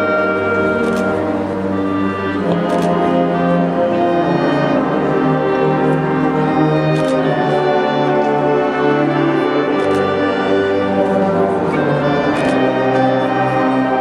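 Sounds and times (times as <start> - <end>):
marching band playing sustained chords: 0.0 - 14.0.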